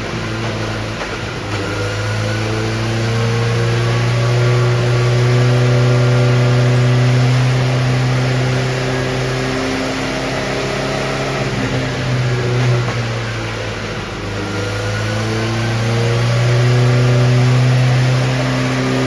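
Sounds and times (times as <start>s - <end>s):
racing car engine running: 0.0s - 19.0s.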